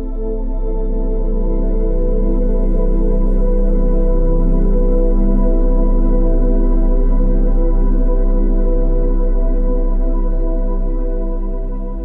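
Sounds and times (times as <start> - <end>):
ambient drone music: 0.0 - 12.0
deep low hum: 0.0 - 12.0.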